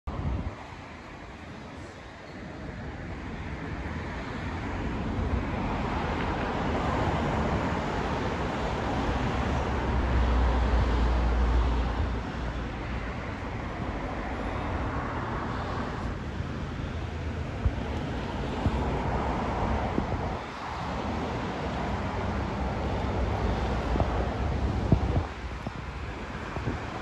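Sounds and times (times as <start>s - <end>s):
road traffic rumble: 0.1s - 27.0s.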